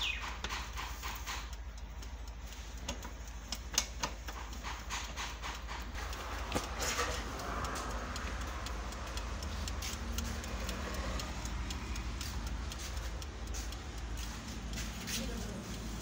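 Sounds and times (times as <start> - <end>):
wind-up timer ticking: 0.0 - 16.0.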